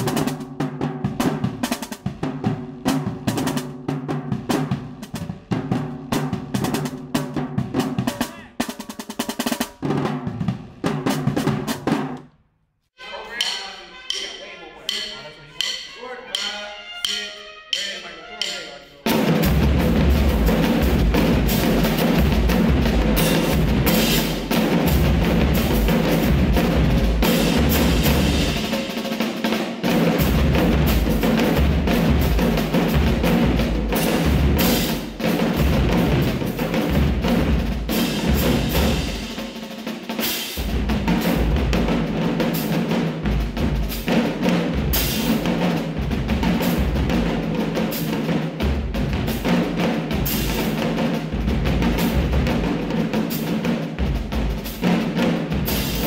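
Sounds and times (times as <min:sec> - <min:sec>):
marching bass drums: 0:00.0 - 0:12.2, 0:13.3 - 0:56.0
snare drum: 0:00.0 - 0:12.3, 0:13.0 - 0:56.0.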